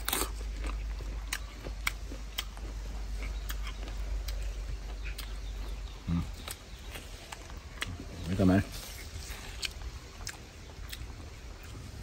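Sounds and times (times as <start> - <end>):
fruit crunching: 0.0 - 12.0.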